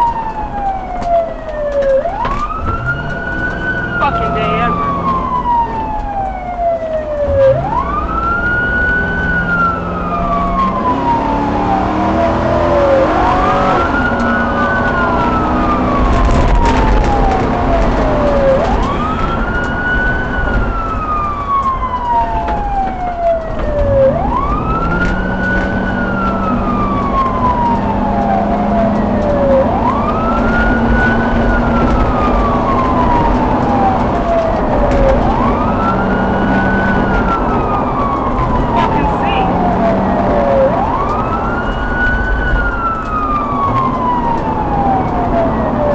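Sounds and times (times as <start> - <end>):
emergency vehicle siren wailing: 0.0 - 45.9.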